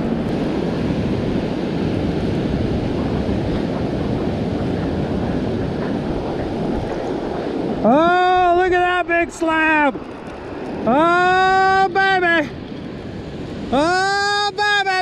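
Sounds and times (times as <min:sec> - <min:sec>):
ocean surf washing onto beach: 0:00.0 - 0:15.0
wind buffeting microphone: 0:00.0 - 0:15.0.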